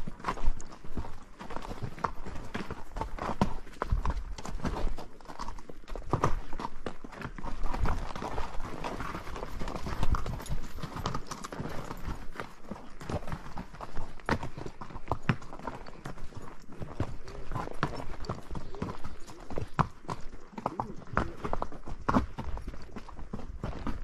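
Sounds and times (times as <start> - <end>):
horse hooves clip-clopping: 0.0 - 24.0.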